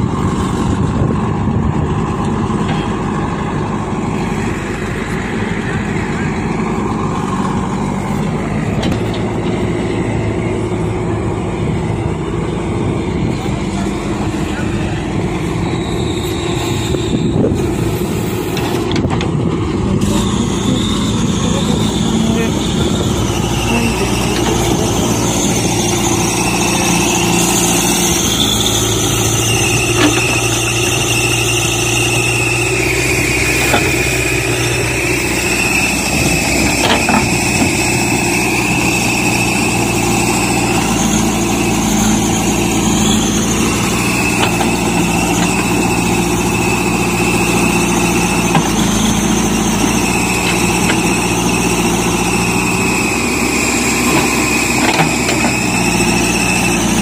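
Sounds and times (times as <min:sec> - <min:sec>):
diesel engine running under load: 0:00.0 - 0:57.0
steady high whine: 0:00.0 - 0:57.0.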